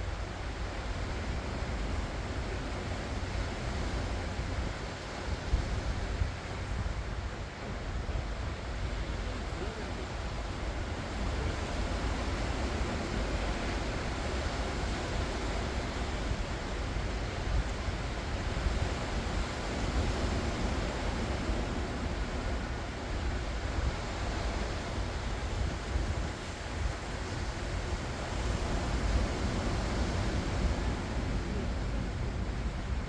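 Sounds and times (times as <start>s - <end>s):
sea waves breaking: 0.0s - 33.0s
wind rumbling on microphone: 0.0s - 33.0s.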